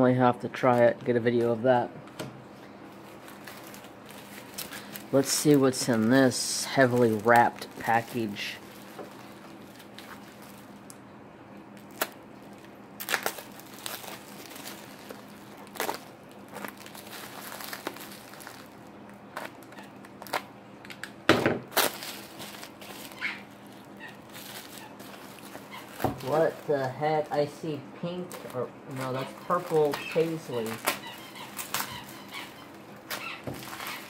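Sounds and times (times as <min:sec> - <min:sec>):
bubble wrap crinkling: 0:02.9 - 0:34.0.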